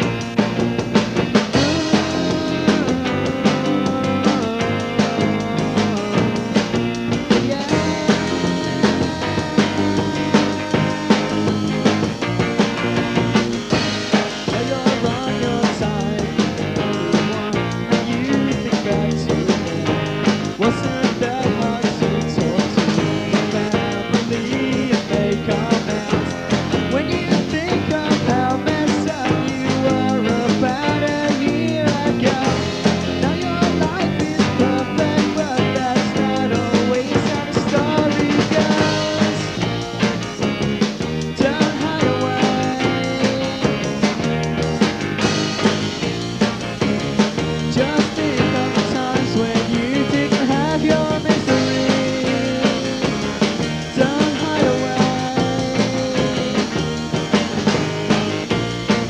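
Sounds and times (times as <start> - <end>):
drums steady beat: 0.0 - 59.0
rock band playing: 0.0 - 59.0.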